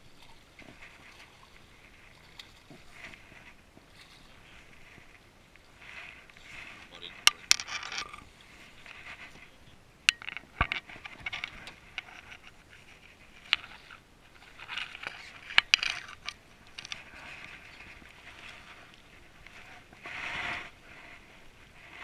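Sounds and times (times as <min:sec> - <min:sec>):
fishing tackle scraping and rustling: 0:00.0 - 0:22.0.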